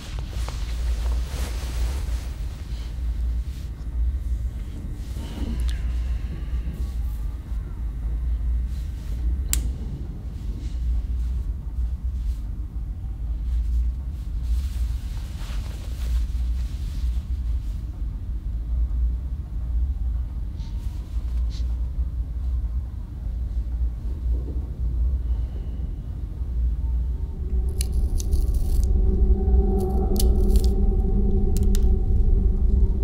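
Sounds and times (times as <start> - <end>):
deep low rumbling drone: 0.0 - 33.0.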